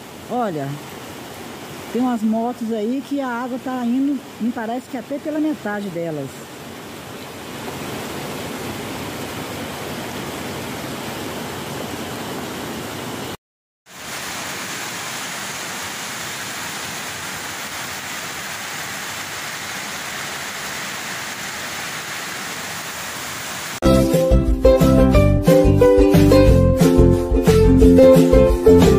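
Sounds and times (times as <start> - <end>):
heavy rain: 0.0 - 23.8
rushing floodwater: 0.0 - 23.8.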